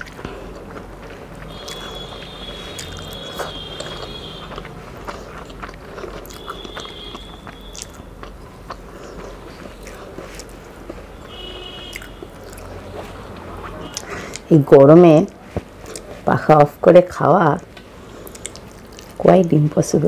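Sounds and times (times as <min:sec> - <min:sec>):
chewing: 0:00.0 - 0:14.5, 0:15.6 - 0:16.2, 0:18.1 - 0:19.2.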